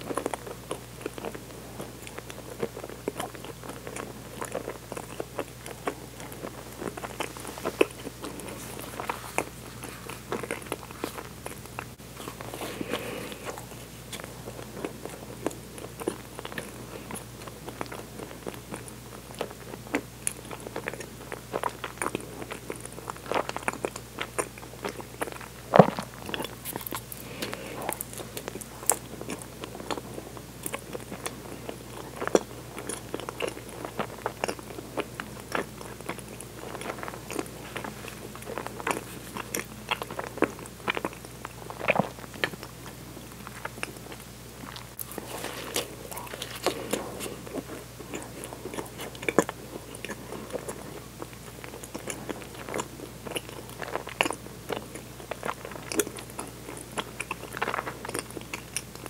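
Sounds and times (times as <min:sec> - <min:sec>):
wet chewing clicks and smacks: 0:00.0 - 0:59.0.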